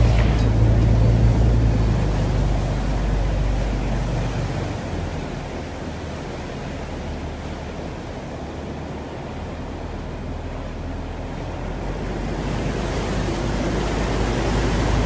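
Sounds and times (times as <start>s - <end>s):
low engine hum: 0.0s - 15.0s
water rushing and splashing: 0.0s - 15.0s.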